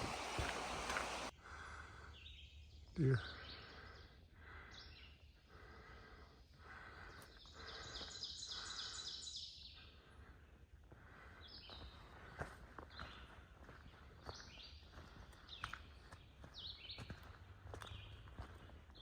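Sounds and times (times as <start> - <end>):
woodland birds singing: 0.0 - 19.0.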